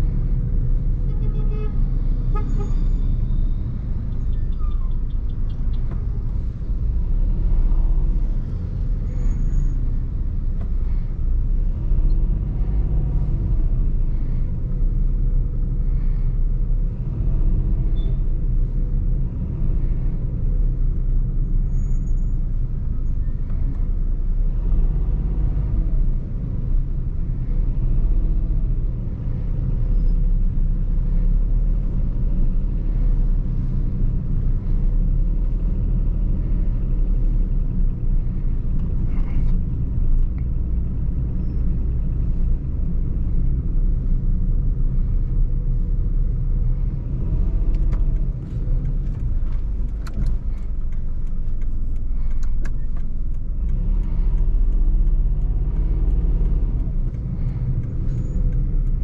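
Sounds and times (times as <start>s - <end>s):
car engine: 0.0s - 59.0s
road noise: 0.0s - 59.0s.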